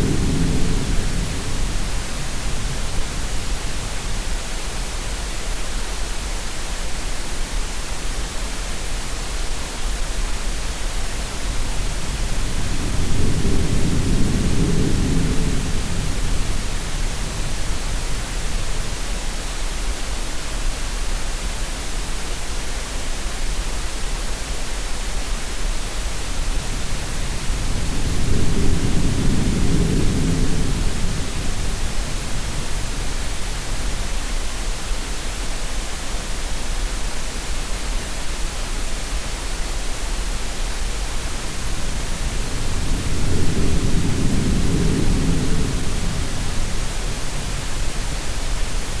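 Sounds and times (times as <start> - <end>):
steady hiss: 0.0 - 49.0.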